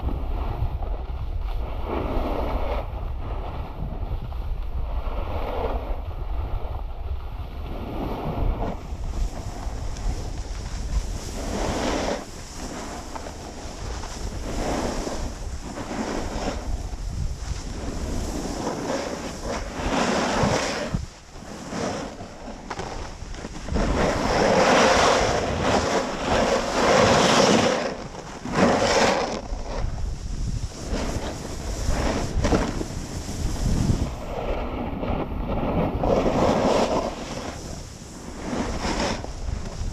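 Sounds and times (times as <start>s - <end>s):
snowboard carving over snow: 0.0s - 39.9s
wind buffeting microphone: 0.0s - 39.9s.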